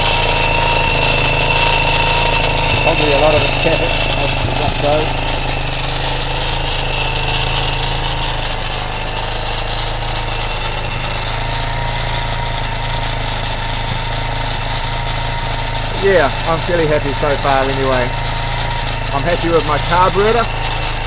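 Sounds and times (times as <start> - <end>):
engine idling: 0.0 - 21.0
engine tappet rattle: 0.0 - 21.0.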